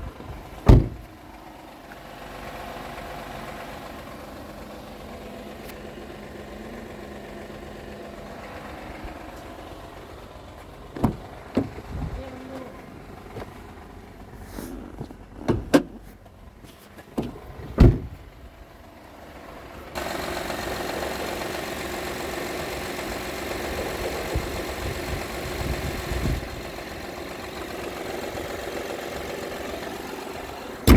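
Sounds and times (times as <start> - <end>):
engine knocking: 0.0 - 14.4, 18.1 - 30.9
engine running steadily: 0.0 - 30.9.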